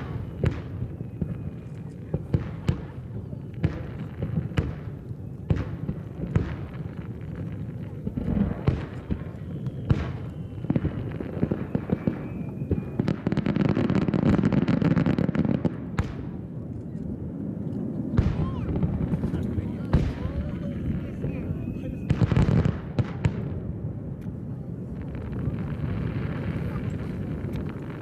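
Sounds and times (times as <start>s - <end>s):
distant fireworks booming: 0.0s - 28.0s
fireworks crackling barrage: 0.0s - 28.0s.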